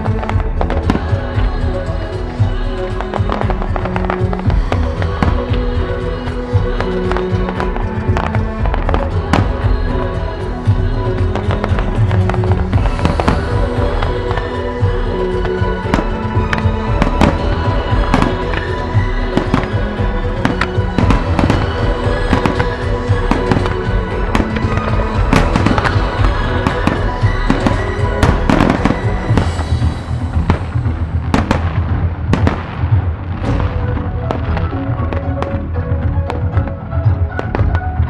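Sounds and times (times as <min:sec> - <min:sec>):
loud music: 0:00.0 - 0:38.0.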